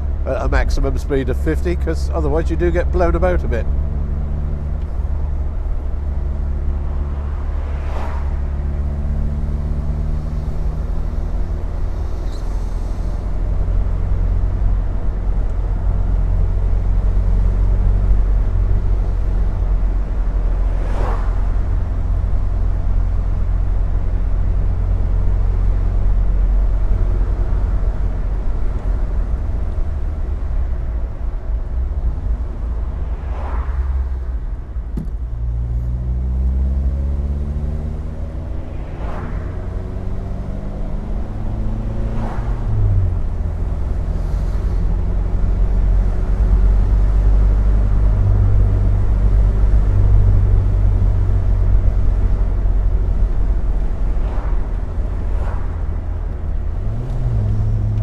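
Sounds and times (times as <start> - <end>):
car engine rumble: 0.0 - 58.0
wind and road noise: 0.0 - 58.0.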